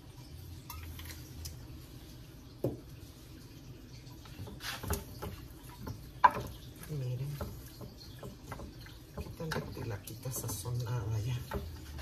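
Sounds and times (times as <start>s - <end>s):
oil trickling: 0.0s - 12.0s.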